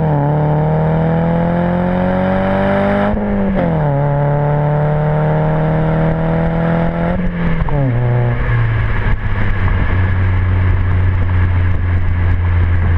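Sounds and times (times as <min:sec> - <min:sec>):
car exhaust under throttle: 0:00.0 - 0:12.9.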